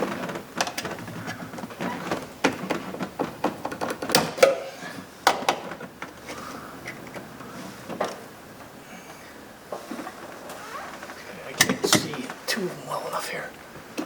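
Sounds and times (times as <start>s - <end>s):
clicks and knocks of hand work: 0.0s - 12.4s.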